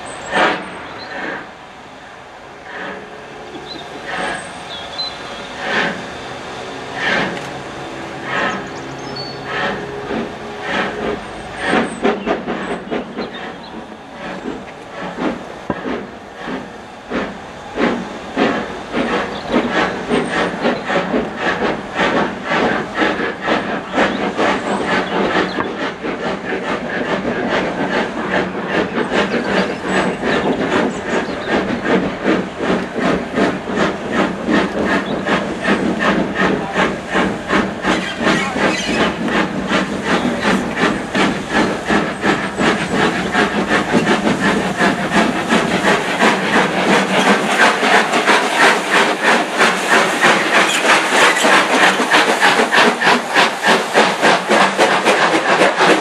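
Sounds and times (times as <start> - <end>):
hiss of steam: 0.0 - 56.0
steam locomotive exhaust beats: 0.0 - 56.0.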